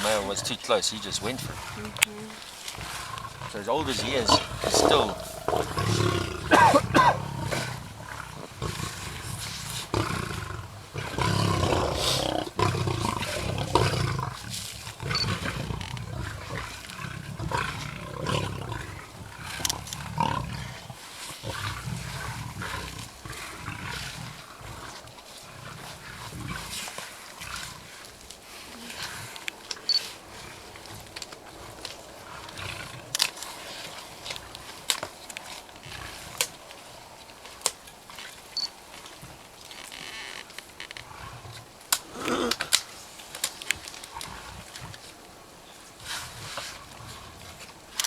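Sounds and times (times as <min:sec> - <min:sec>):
lions growling: 0:00.0 - 0:37.5, 0:41.0 - 0:48.0.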